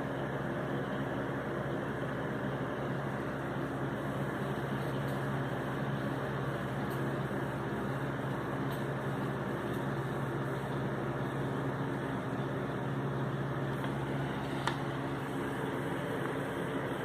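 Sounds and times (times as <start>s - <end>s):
computer fans whirring: 0.0s - 17.0s.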